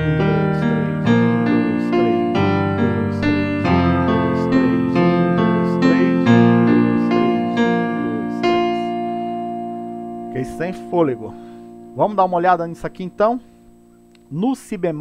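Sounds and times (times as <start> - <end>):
electronic keyboard piano arpeggios: 0.0 - 14.0.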